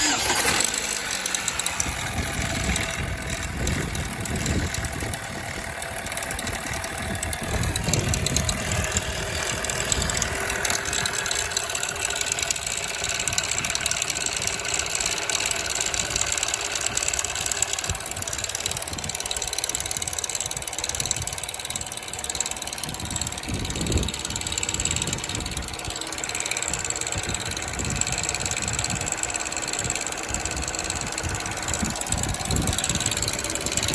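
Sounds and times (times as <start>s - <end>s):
car engine running: 0.0s - 33.9s
timing chain rattle: 0.0s - 33.9s.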